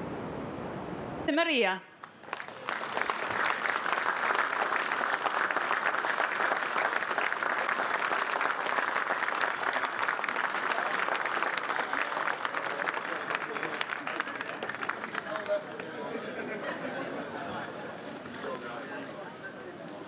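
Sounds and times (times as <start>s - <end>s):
crowd applauding: 2.0s - 20.0s.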